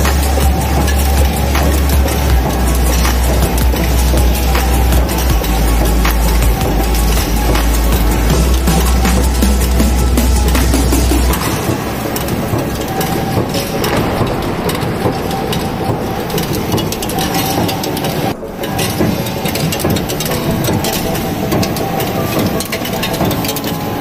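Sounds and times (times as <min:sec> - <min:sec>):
steady machine noise: 0:00.0 - 0:24.0.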